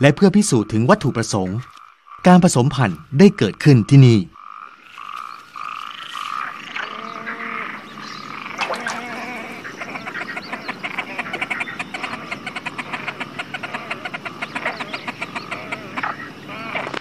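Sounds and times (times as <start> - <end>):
grebes calling: 0.0 - 17.0.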